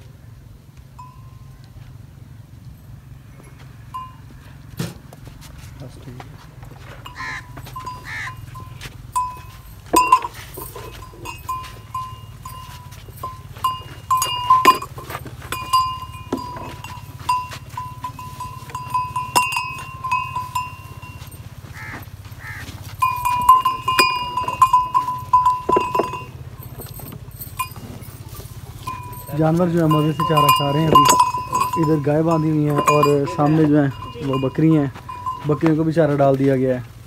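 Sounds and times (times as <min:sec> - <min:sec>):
steady low hum: 0:00.0 - 0:36.2
animals chewing: 0:01.6 - 0:37.0.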